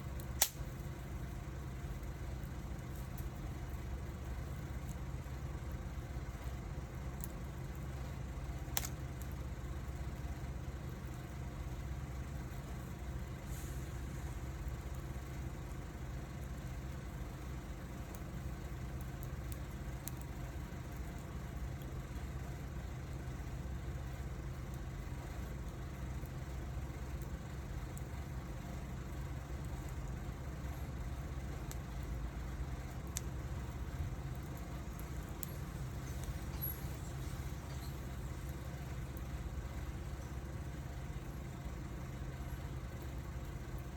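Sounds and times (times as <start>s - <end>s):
fire crackles and pops: 0.0s - 43.9s
wood fire burning: 0.0s - 43.9s.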